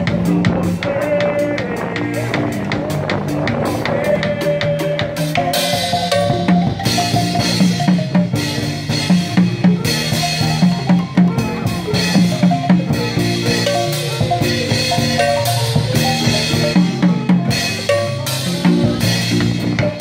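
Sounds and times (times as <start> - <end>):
drums and cymbals: 0.0 - 20.0
marimba played with mallets: 0.0 - 20.0.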